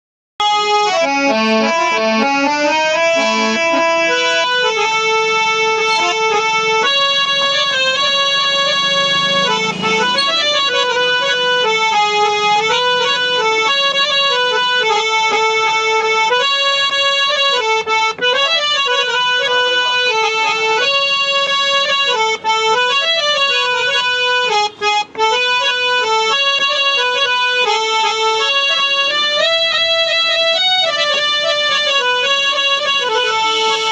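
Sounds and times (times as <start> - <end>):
harmonium melody: 0.4 - 33.9.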